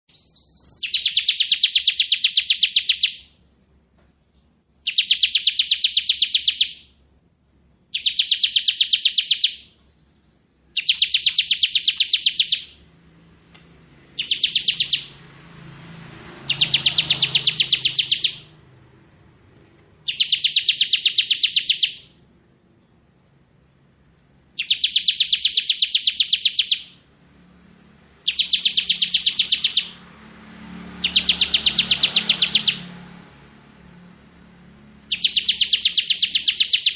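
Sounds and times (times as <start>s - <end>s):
bird singing rapid trill: 0.1s - 7.0s, 7.8s - 36.9s.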